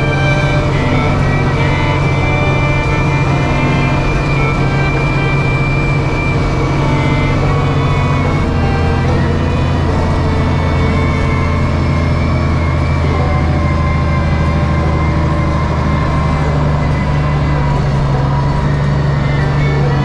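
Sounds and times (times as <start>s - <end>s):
wheel loader diesel engine droning: 0.0s - 20.0s.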